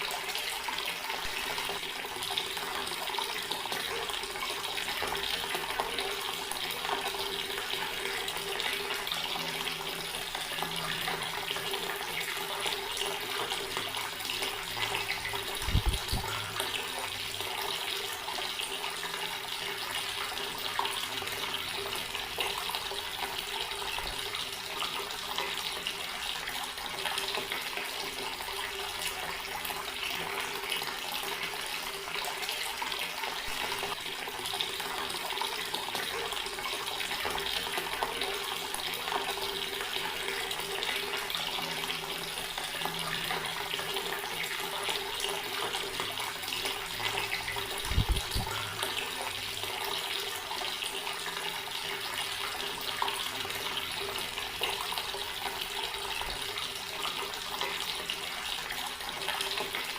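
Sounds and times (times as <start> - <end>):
water running from tap: 0.0 - 59.9.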